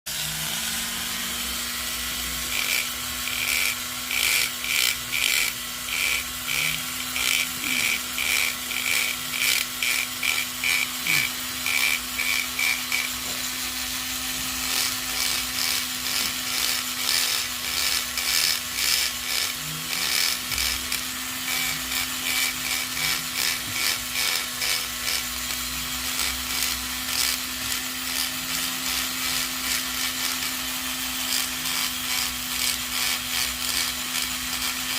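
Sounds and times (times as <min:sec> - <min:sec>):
rotary tool grinding horn: 0:00.1 - 0:34.9.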